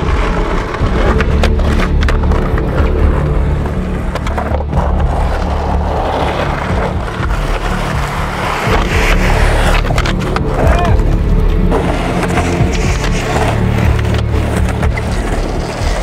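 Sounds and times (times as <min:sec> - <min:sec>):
music with low bass line: 0:00.0 - 0:16.0
skateboard clacks: 0:00.0 - 0:16.0
skateboard wheels rolling on asphalt: 0:00.0 - 0:16.0.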